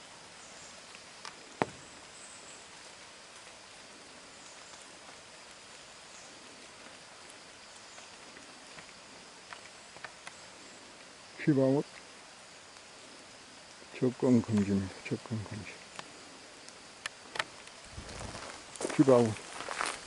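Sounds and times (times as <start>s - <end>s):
mountain stream running: 0.0s - 20.0s
rain hissing: 0.0s - 20.0s.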